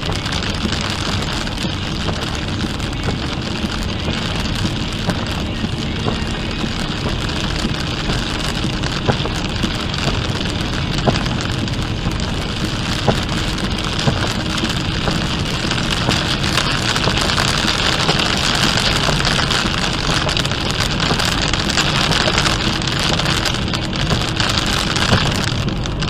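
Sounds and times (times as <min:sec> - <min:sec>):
heavy rain hitting car: 0:00.0 - 0:26.0
road and tyre noise: 0:00.0 - 0:26.0.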